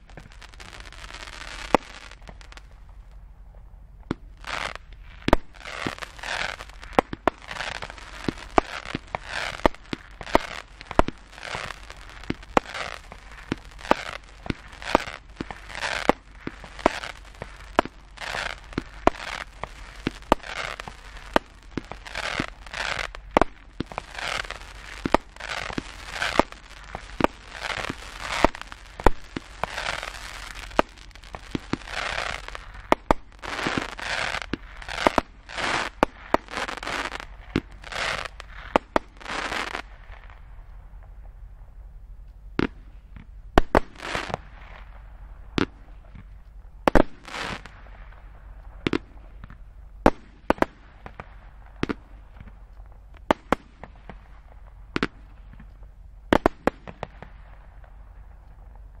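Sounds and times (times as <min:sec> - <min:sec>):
fireworks bangs: 0:00.0 - 0:41.8, 0:42.5 - 0:59.0
fireworks crackling: 0:00.0 - 0:59.0.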